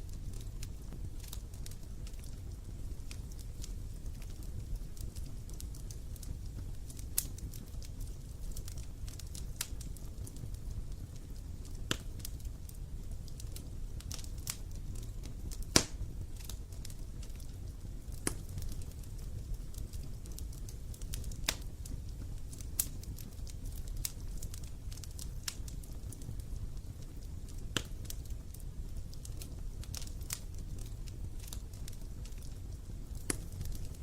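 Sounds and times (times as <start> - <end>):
bonfire crackling and popping: 0.0 - 34.0.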